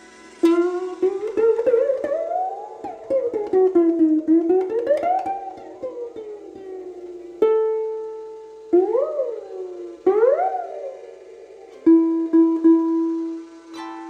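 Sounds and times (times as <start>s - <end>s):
plucked string music: 0.0s - 14.0s
single plucked note ringing: 0.0s - 14.0s.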